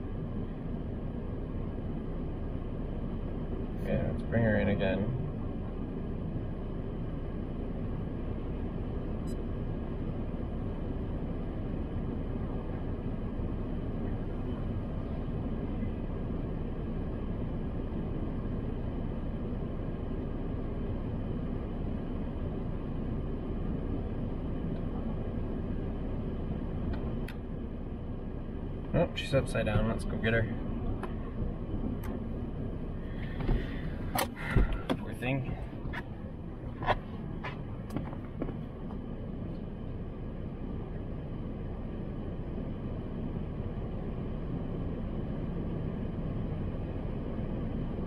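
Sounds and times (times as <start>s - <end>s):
car engine idling: 0.0s - 48.0s
faint steady tones: 0.0s - 48.0s
low rumble and hiss in car cabin: 0.0s - 48.0s.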